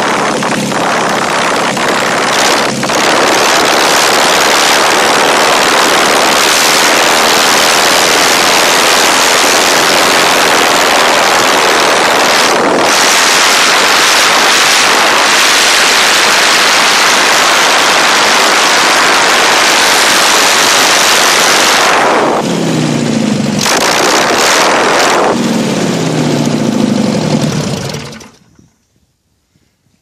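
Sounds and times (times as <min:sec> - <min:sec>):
propeller engine running: 0:00.0 - 0:28.7
propeller wind on microphone: 0:00.0 - 0:28.7.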